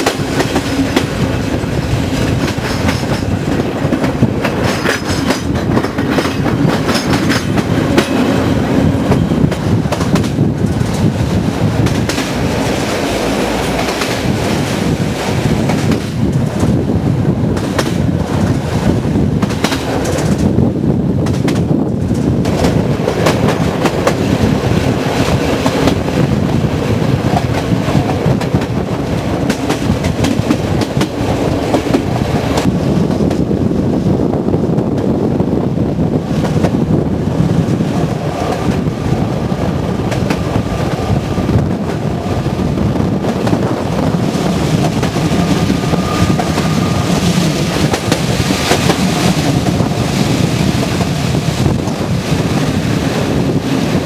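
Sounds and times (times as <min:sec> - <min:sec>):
train rumble: 0:00.0 - 0:54.0
wind rushing past window: 0:00.0 - 0:54.0.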